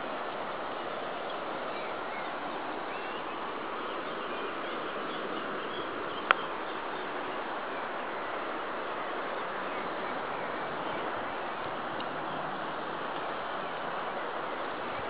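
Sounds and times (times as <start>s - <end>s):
light rain on foliage: 0.0s - 15.0s.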